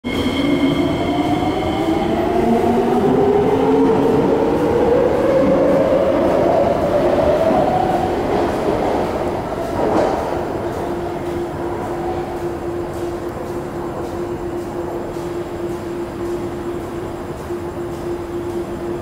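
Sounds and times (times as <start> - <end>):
train wheels rumbling on track: 0.1 - 19.0.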